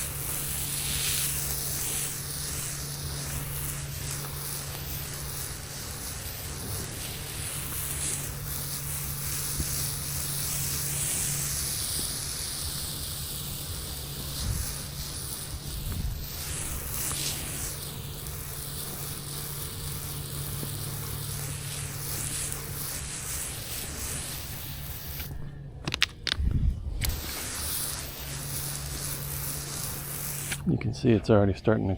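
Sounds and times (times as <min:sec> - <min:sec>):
spray hissing onto concrete: 0:00.0 - 0:30.7
low steady hum: 0:00.0 - 0:31.9.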